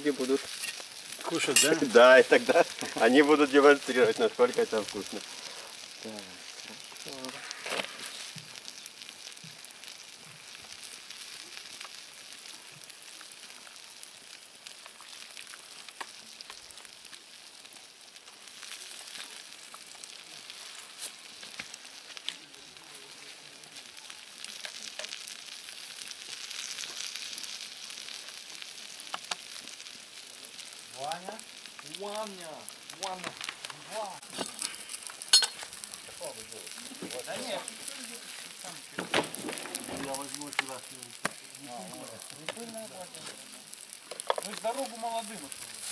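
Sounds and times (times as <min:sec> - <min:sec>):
campfire crackles: 0:00.0 - 0:45.9
stew sizzling in a pot: 0:00.0 - 0:45.9.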